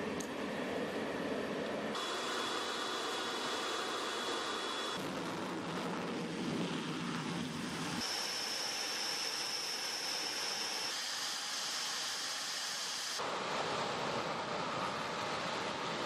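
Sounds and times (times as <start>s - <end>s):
jet engines taxiing: 0.0s - 16.0s.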